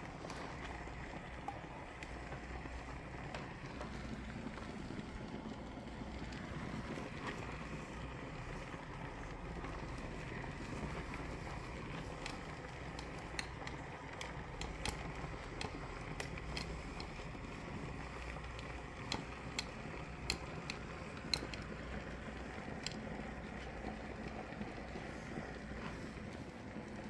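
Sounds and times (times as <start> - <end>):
steamer crackles and pops: 0.0 - 27.0.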